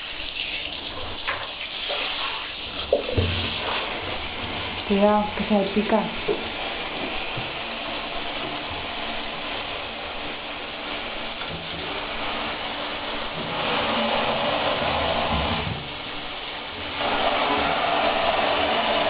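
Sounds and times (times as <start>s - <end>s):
shower spraying water: 0.0s - 19.0s.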